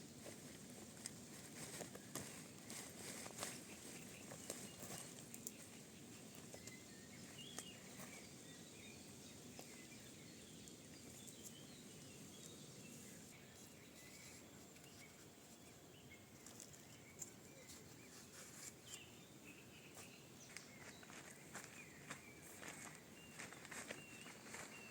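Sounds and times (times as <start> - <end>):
soft bird chirps: 1.6 - 24.9.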